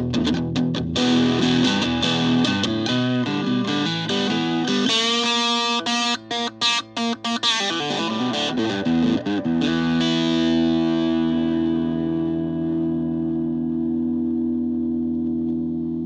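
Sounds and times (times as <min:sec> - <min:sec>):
electric guitar strumming: 0:00.0 - 0:16.0.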